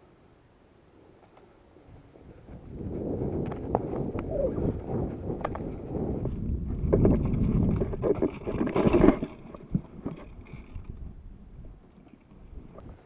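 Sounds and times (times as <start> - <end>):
wind noise on microphone: 1.8 - 13.0.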